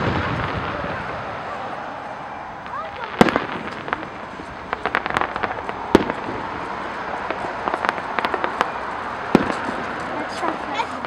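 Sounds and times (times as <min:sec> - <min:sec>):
loud firework bang: 0:00.0 - 0:10.6
fireworks popping and cracking: 0:00.0 - 0:11.0.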